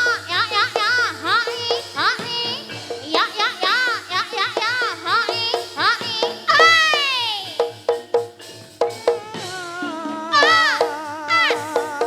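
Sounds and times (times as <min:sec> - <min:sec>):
drums: 0:00.0 - 0:12.0
struck metal notes: 0:00.0 - 0:12.0.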